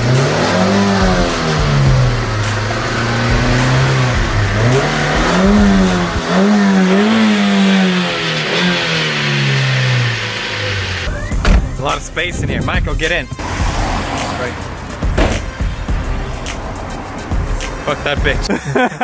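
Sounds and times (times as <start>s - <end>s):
car engine revving: 0.0s - 18.5s.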